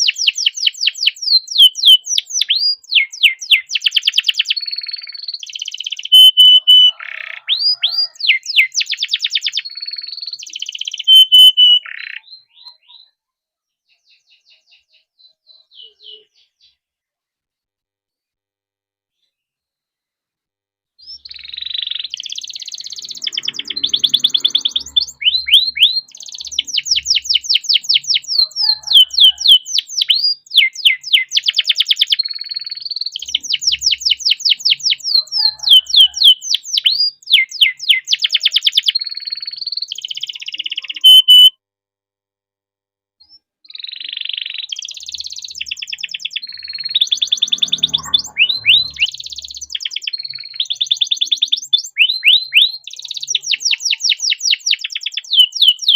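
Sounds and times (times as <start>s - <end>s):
canary singing trills: 0.0s - 13.2s, 13.8s - 16.8s, 21.0s - 41.5s, 43.3s - 55.9s.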